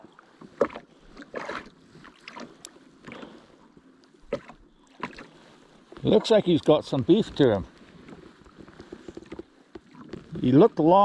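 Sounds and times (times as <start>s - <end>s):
water lapping against kayak hull: 0.0s - 11.0s.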